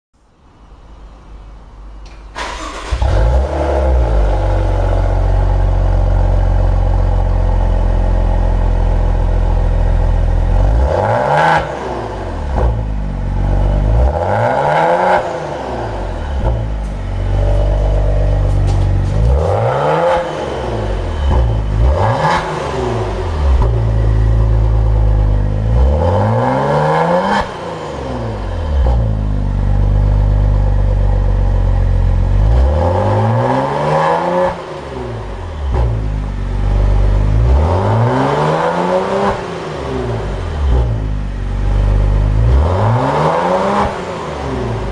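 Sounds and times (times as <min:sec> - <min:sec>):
car exhaust idling and revving: 0:00.2 - 0:44.9.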